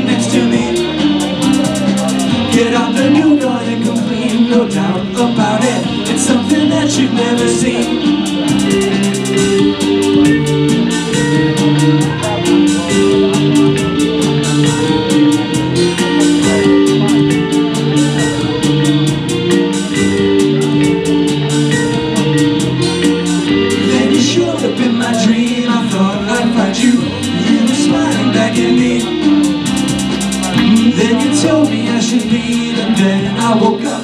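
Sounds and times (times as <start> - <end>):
drum machine beat: 0.0 - 34.0
electric bass: 0.0 - 34.0
electric guitar: 0.0 - 34.0
person singing: 0.0 - 34.0
synth chords: 0.0 - 34.0.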